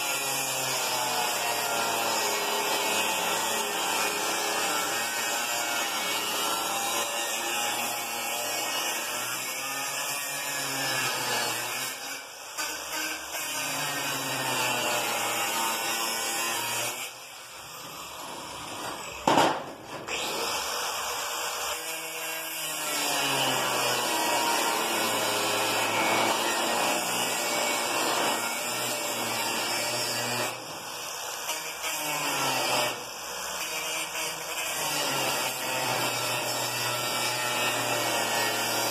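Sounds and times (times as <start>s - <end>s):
angle grinder cutting steel: 0.0s - 19.2s, 20.0s - 38.9s.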